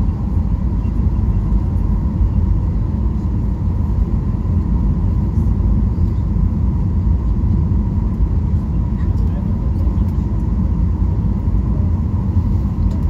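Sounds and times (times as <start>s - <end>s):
airplane cabin rumble: 0.0s - 13.0s
faint steady whine: 0.0s - 13.0s.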